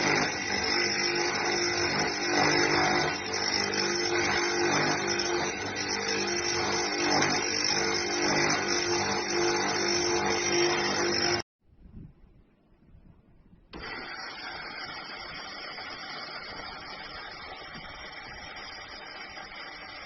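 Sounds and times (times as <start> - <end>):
electric coffee grinder whirring: 0.0 - 11.4, 13.8 - 20.0.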